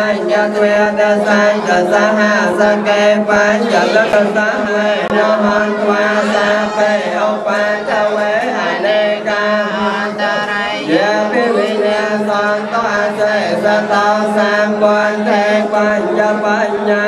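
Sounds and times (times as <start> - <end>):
man chanting over loudspeaker: 0.0 - 17.0.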